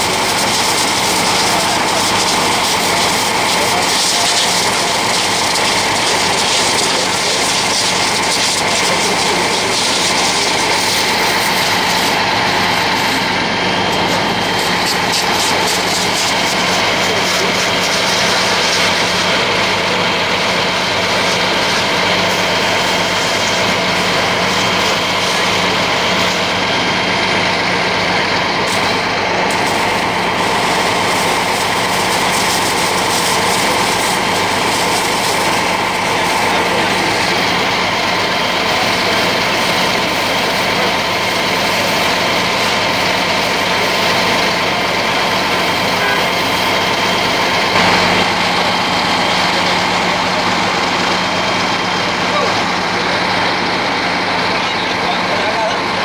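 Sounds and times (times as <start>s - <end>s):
large vehicle engine idling: 0.0s - 56.0s.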